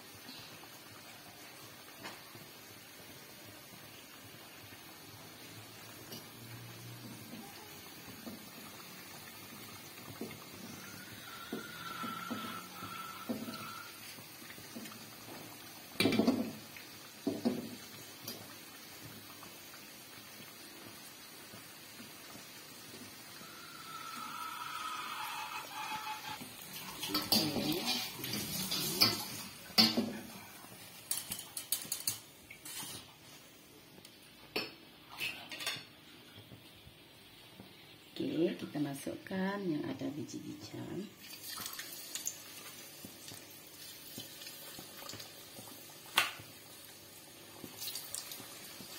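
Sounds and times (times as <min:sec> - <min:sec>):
oil sizzling in a wok: 0:00.0 - 0:48.9.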